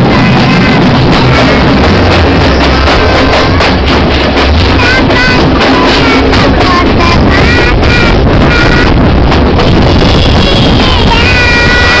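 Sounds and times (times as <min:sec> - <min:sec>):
loud music with a beat: 0:00.0 - 0:12.0.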